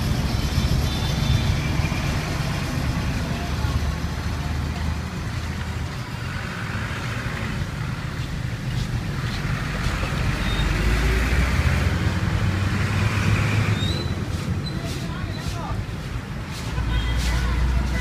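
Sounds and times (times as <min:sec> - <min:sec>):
street traffic rumbling: 0:00.0 - 0:18.0
vehicle passing by: 0:00.0 - 0:18.0.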